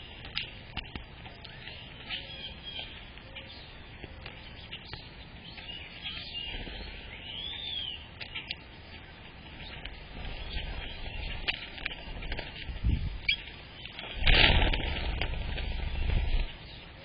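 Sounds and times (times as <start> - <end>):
birds chirping: 0.0 - 17.0
crackly background: 0.0 - 17.0.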